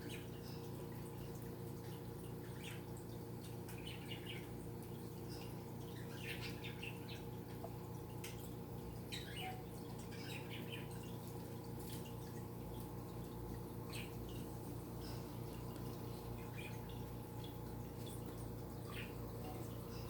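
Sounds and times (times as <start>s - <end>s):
small birds chirping: 0.0s - 20.0s
steady low hum: 0.0s - 20.0s.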